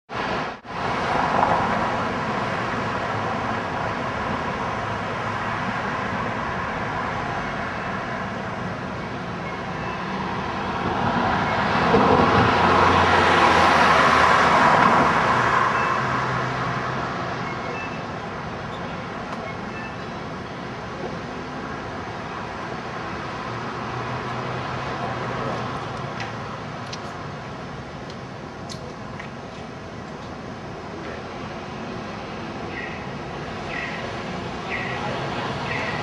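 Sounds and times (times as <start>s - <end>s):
vehicle road noise: 0.1s - 36.0s.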